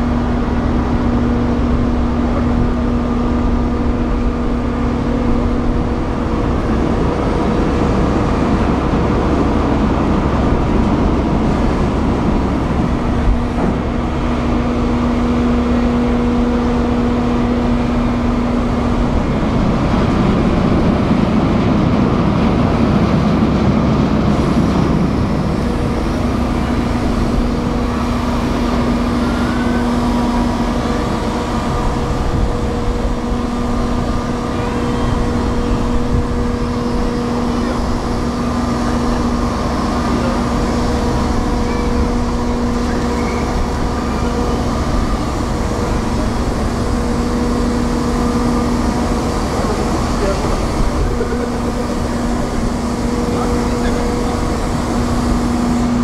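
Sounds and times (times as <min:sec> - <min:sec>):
machinery humming tone: 0:00.0 - 0:56.0
ship engines rumbling: 0:00.0 - 0:56.0.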